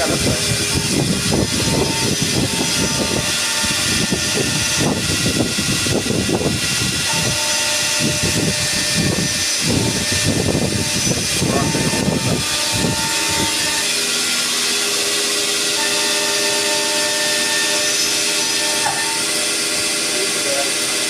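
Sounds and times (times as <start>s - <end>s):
cnc machine cutting drone: 0.0s - 21.0s.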